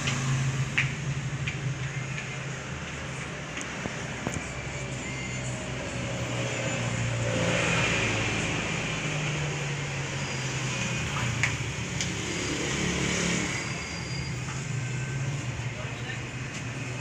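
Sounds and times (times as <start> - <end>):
cars and motorcycles passing: 0.0 - 17.0.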